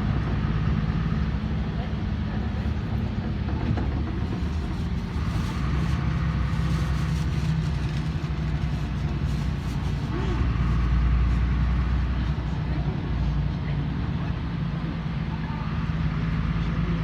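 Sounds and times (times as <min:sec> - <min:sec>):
bus engine hum: 0:00.0 - 0:17.0
road and body noise: 0:01.5 - 0:17.0.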